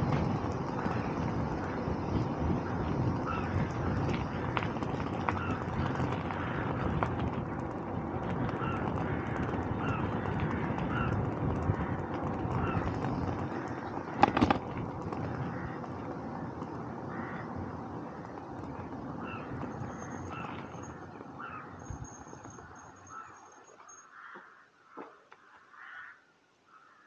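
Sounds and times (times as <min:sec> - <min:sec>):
steady rushing noise: 0:00.0 - 0:23.5
birds calling: 0:00.0 - 0:27.0.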